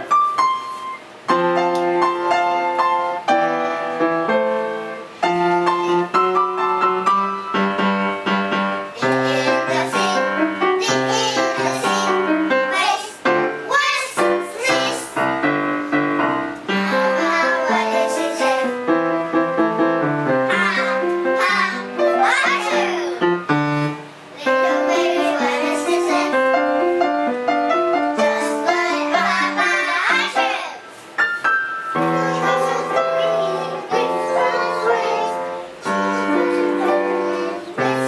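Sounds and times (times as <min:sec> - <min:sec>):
piano background music: 0:00.0 - 0:38.0.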